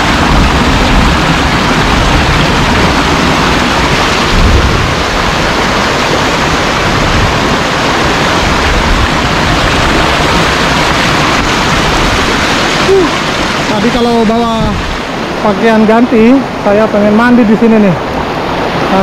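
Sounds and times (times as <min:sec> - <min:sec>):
low rumble: 0:00.0 - 0:15.7
stream rushing over rocks: 0:00.0 - 0:19.0.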